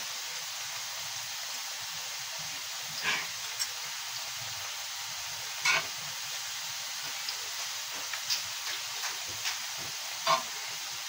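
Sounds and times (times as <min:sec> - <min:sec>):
butter sizzling in frying pan: 0:00.0 - 0:11.0.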